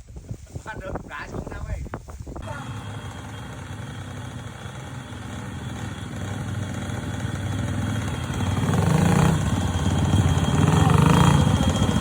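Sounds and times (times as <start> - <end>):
motorcycle engine running: 2.4 - 12.0.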